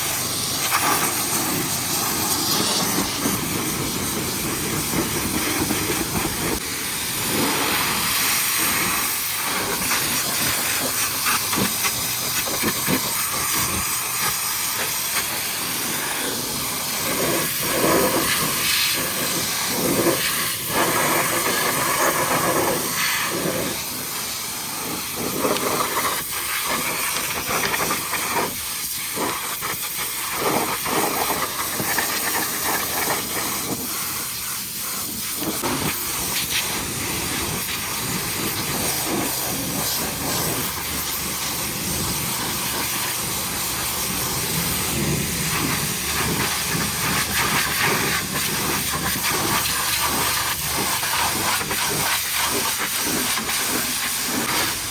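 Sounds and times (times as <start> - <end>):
pressure washer jet spraying: 0.0 - 54.9.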